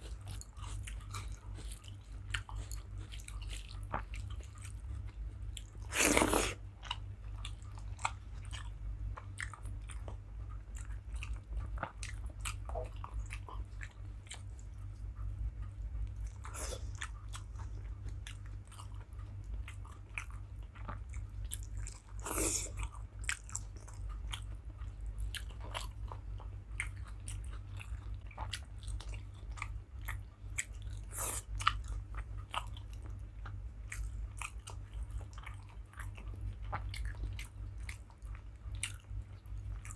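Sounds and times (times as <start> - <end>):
food crunching: 0.0 - 39.9
person chewing: 0.0 - 39.9.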